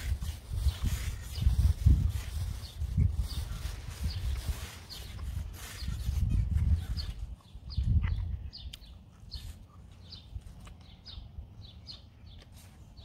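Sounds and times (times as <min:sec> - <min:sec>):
low wind rumble on microphone: 0:00.0 - 0:11.9
small bird chirping: 0:00.0 - 0:13.0.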